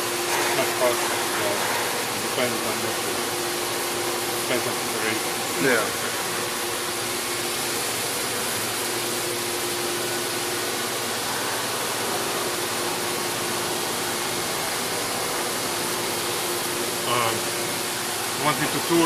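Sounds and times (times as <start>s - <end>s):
coolant rushing: 0.0s - 19.0s
faint machine hum: 0.0s - 19.0s.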